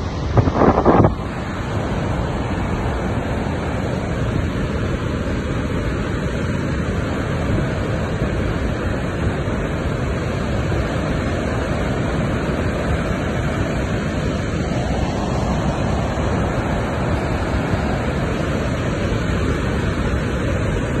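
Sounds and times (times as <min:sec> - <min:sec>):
river water rushing over rapids: 0:00.0 - 0:21.0.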